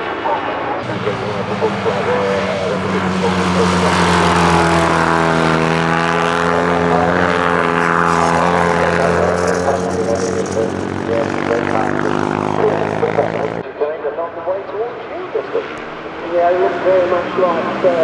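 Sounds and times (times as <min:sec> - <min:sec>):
racing engines at high revs: 0:00.0 - 0:13.8, 0:14.6 - 0:18.0.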